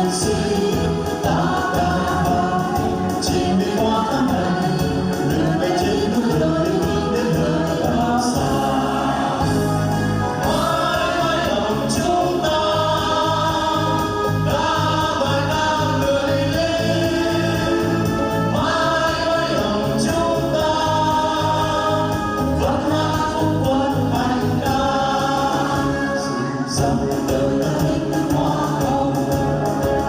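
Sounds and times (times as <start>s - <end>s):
group singing in chorus: 0.0s - 30.0s
musical accompaniment with bass beat: 0.0s - 30.0s.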